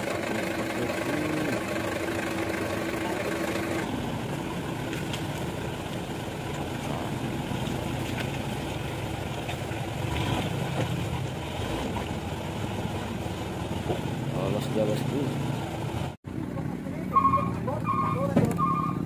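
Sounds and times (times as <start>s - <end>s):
diesel truck engine rumble: 0.0s - 19.0s.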